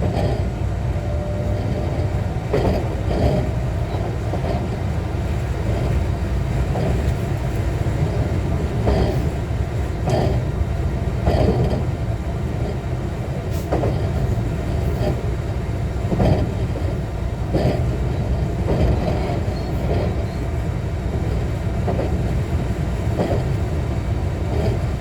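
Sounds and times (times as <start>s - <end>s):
wheels clacking over rail joints: 0.0s - 25.0s
wheels rumbling on rail: 0.0s - 25.0s.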